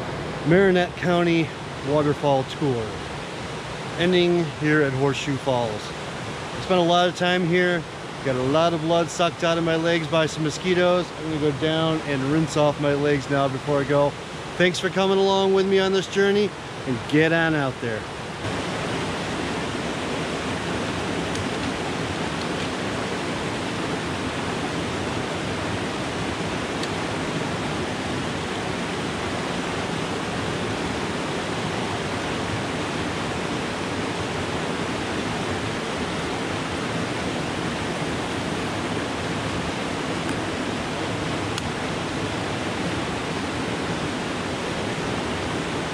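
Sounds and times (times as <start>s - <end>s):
water rushing over rapids: 0.0s - 45.9s.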